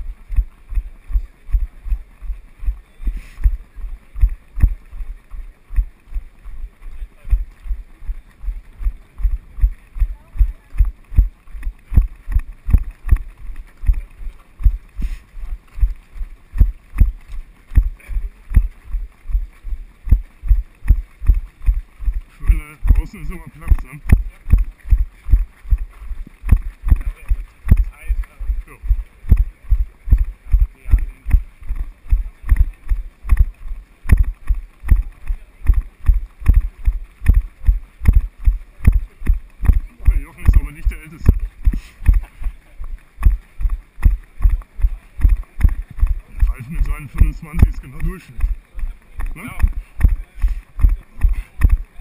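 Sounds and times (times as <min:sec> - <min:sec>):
running footfalls thudding: 0:00.0 - 0:52.0.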